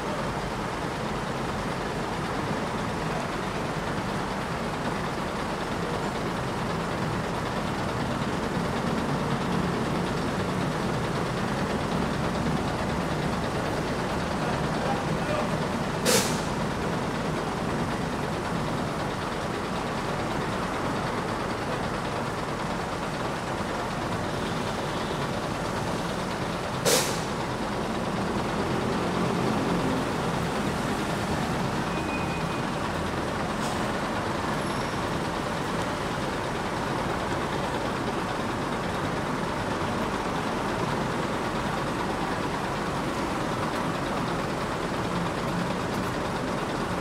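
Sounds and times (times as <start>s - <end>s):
bus diesel engine idling: 0.0s - 47.0s.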